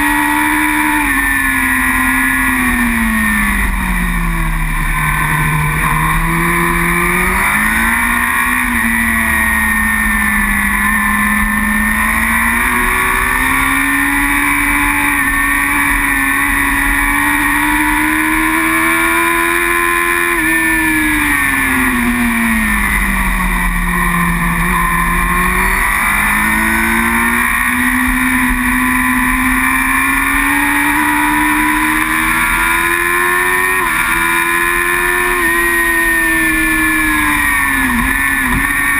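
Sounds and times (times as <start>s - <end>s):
superbike engine: 0.0s - 38.9s.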